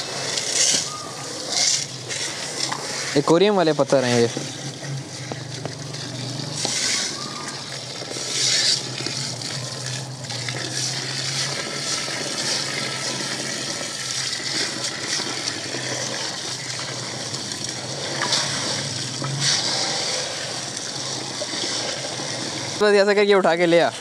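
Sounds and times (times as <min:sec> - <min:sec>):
hose water gushing into tub: 0:00.0 - 0:24.0.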